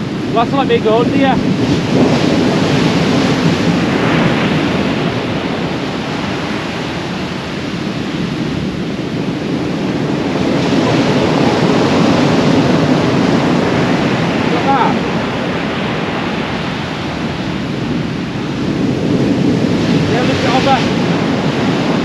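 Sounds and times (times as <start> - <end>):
waves breaking on beach: 0.0 - 22.0
wind buffeting microphone: 0.0 - 22.0.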